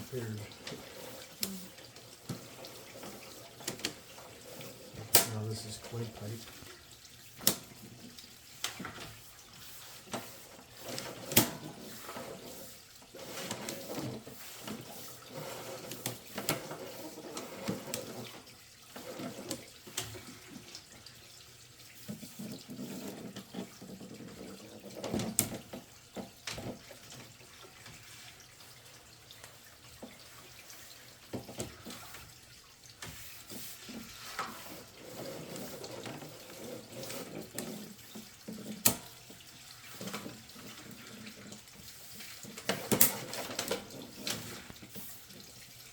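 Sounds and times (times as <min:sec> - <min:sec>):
water trickling through drain pipe: 0:00.0 - 0:45.9.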